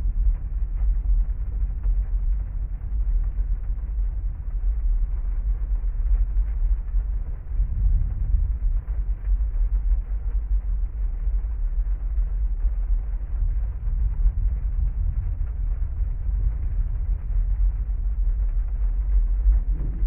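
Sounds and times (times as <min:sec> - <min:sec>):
muffled heavy rain on car: 0:00.0 - 0:20.0
raindrops pattering: 0:00.0 - 0:20.0.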